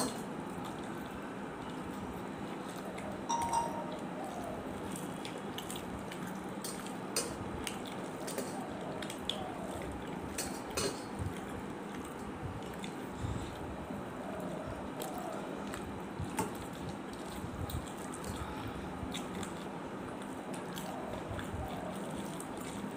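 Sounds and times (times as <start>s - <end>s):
fingers mixing rice: 0.0s - 22.9s.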